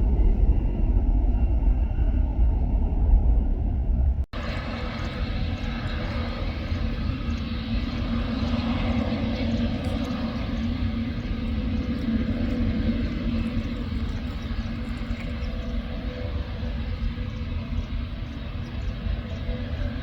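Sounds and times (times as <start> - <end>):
aircraft engines rumbling: 0.0 - 20.0
low hum: 0.0 - 20.0.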